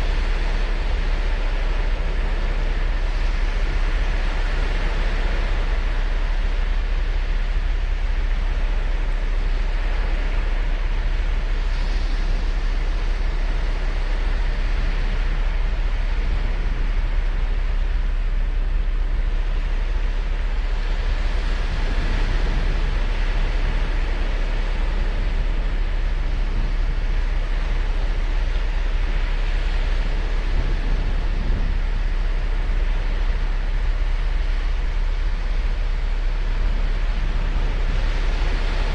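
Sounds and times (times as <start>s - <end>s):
deep surf rumble: 0.0s - 38.9s
waves breaking on beach: 0.0s - 38.9s.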